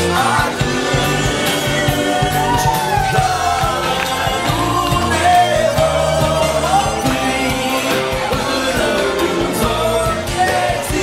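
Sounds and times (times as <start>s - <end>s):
singing over a driving beat: 0.0s - 11.0s.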